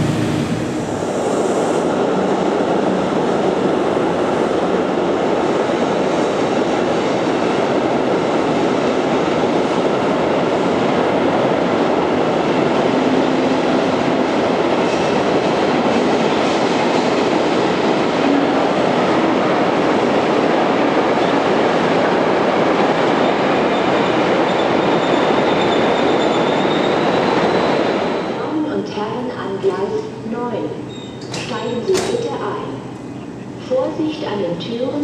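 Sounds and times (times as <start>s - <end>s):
train wheels rumbling on rails: 0.0s - 29.5s.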